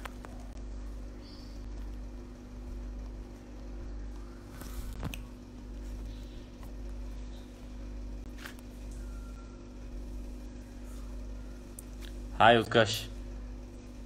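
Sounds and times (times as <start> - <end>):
low hum with faint tone: 0.0 - 14.0.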